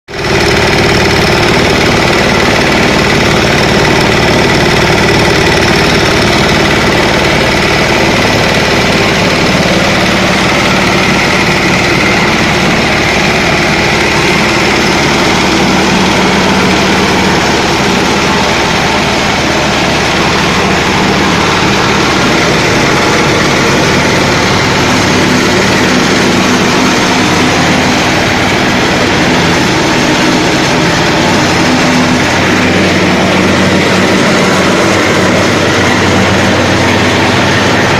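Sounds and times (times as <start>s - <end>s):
cutting machine engine running: 0.1s - 37.9s
high whine: 0.1s - 37.9s.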